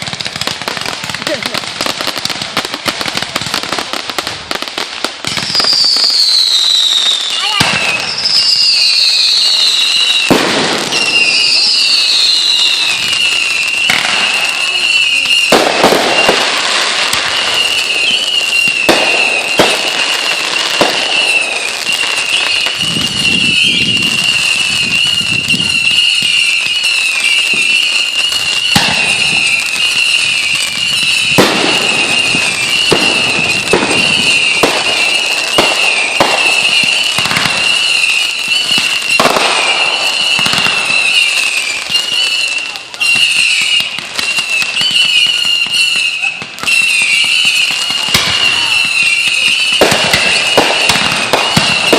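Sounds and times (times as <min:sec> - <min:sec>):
falling firework whistles: 0:00.0 - 0:51.9
firework shrill whistle: 0:00.0 - 0:51.9
fireworks bangs and crackling pops: 0:00.0 - 0:51.9.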